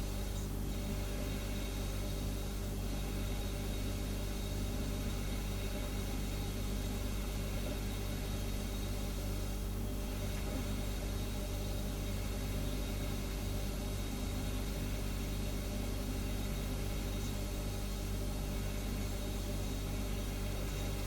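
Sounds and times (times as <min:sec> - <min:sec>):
refrigerator humming: 0:00.0 - 0:21.0.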